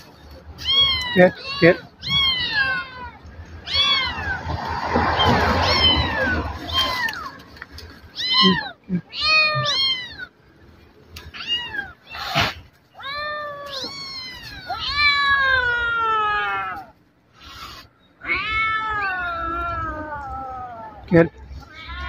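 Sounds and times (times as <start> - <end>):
kittens meowing: 0.6 - 10.3, 11.2 - 22.0.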